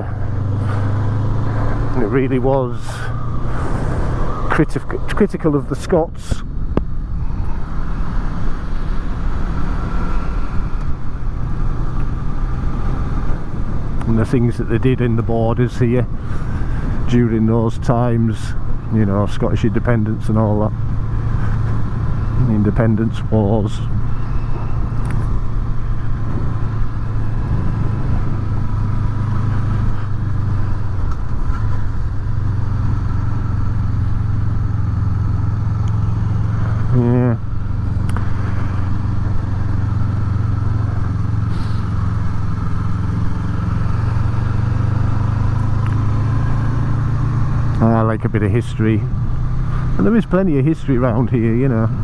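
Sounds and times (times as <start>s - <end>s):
wind rumble on microphone: 0.0s - 47.7s
motorcycle engine running: 0.0s - 52.0s.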